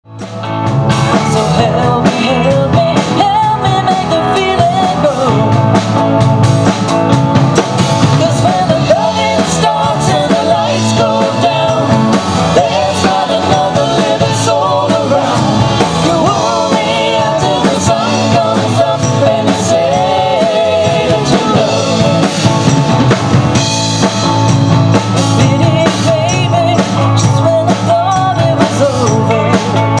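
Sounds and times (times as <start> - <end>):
bass guitar: 0.0 - 30.0
drum kit: 0.1 - 30.0
electric guitars: 0.1 - 30.0
woman singing lead: 1.1 - 5.8, 8.0 - 22.7, 25.3 - 30.0.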